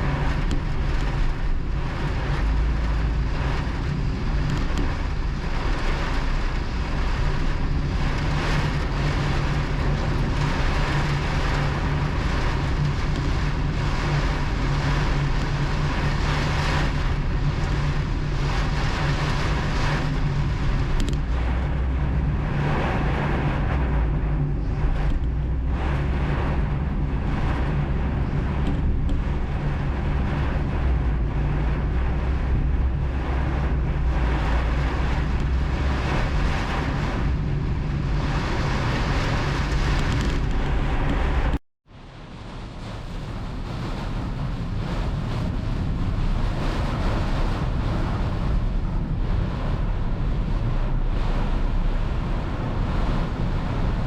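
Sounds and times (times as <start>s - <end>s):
heavy downpour: 0.0s - 54.0s
low engine-like hum: 0.0s - 54.0s.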